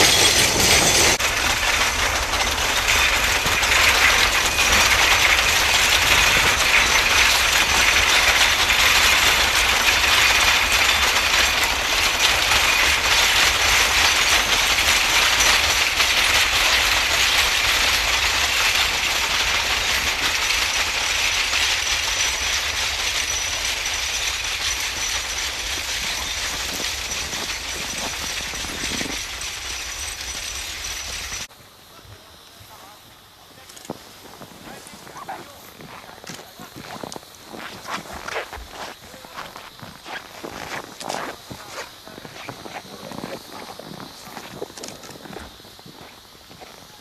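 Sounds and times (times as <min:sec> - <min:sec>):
train wheels clattering on rails: 0:00.0 - 0:31.5, 0:32.2 - 0:47.0.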